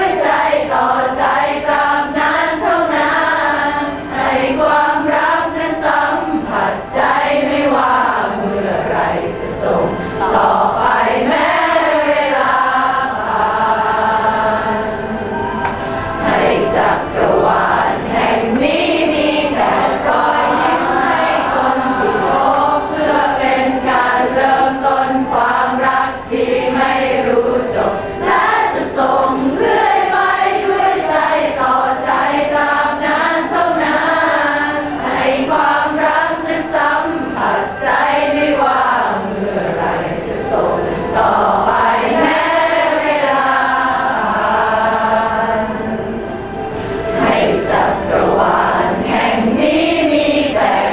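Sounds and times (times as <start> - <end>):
group singing: 0.0 - 50.9.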